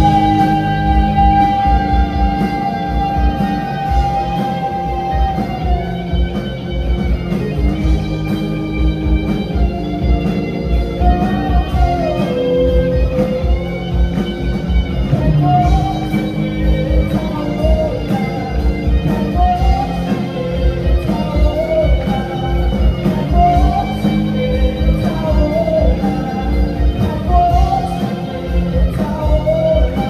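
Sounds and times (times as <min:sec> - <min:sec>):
bass guitar: 0:00.0 - 0:30.0
electric guitar lead notes: 0:00.0 - 0:30.0
steady drum beat: 0:00.0 - 0:30.0.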